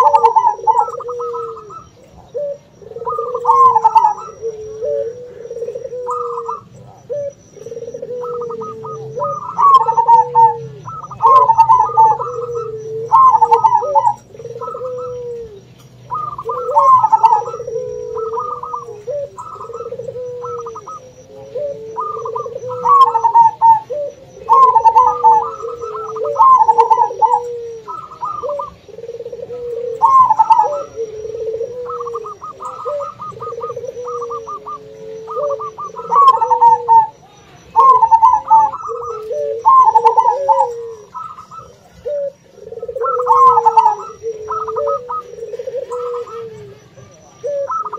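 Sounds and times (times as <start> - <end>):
doves cooing quick staccato phrases: 0.0 - 47.9
low drawn-out dove coos: 0.0 - 47.9.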